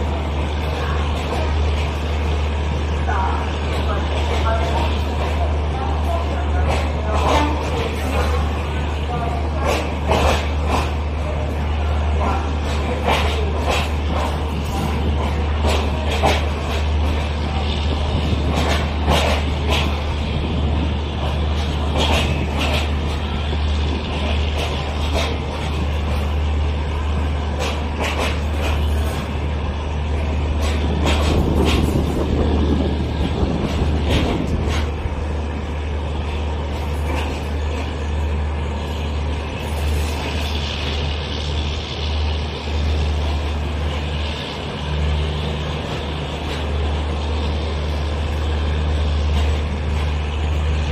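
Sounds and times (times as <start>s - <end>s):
train clanks and knocks: 0.0s - 50.9s
train low drone: 0.0s - 50.9s.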